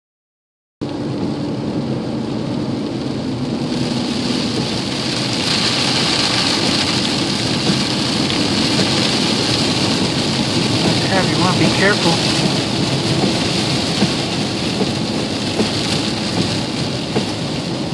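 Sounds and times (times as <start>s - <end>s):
heavy rain on vehicle roof: 0.8s - 17.9s
vehicle road noise: 0.8s - 17.9s.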